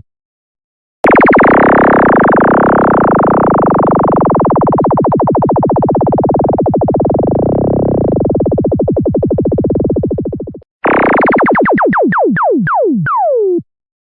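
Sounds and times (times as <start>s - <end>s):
pulsing electronic tone: 1.0s - 13.6s.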